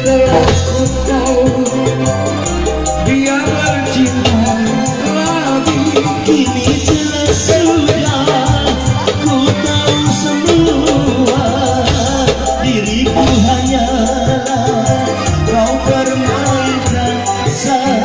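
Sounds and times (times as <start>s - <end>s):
bass: 0.0s - 18.0s
keyboard: 0.0s - 18.0s
person singing into microphone: 0.0s - 18.0s
steady percussion beat: 0.0s - 18.0s.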